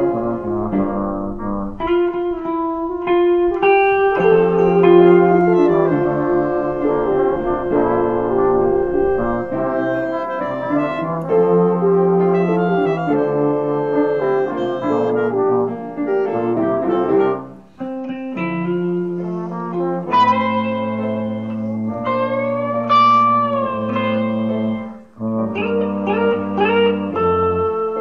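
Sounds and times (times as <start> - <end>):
brass and woodwind chords: 0.0 - 28.0
electric guitar bent notes: 0.0 - 28.0.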